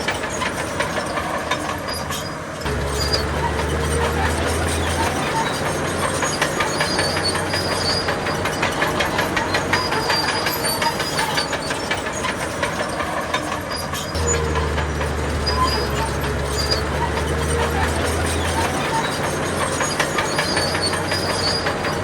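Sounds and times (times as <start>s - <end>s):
bulldozer tracks clanking: 0.0s - 22.0s
diesel engine drone: 1.0s - 22.0s.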